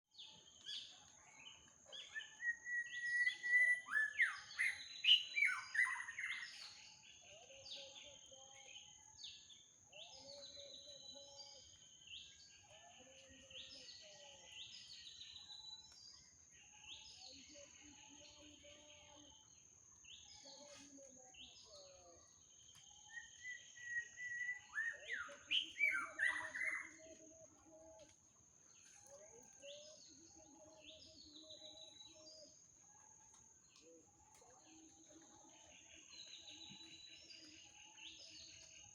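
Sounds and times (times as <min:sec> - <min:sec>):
birds chirping in chorus: 0:00.1 - 0:38.9.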